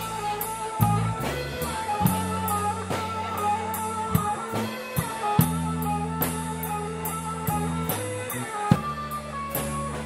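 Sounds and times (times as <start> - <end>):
drums and cymbal hits: 0.0 - 10.0
electric guitar melody: 0.0 - 10.0
low bass notes: 0.0 - 10.0.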